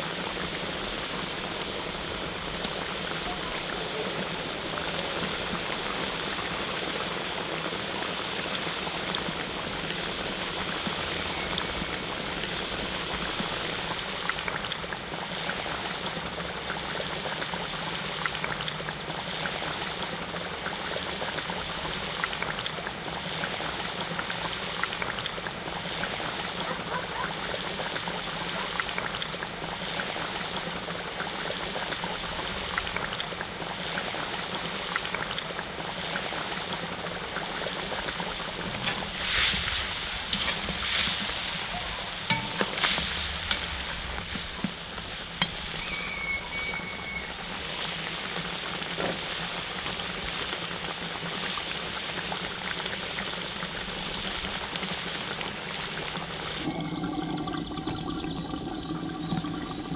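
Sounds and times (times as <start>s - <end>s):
meat and sauce sizzling and bubbling: 0.0s - 59.9s.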